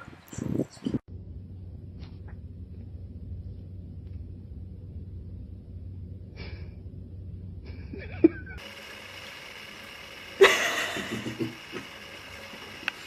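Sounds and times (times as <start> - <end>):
low steady hum: 0.9 - 13.0.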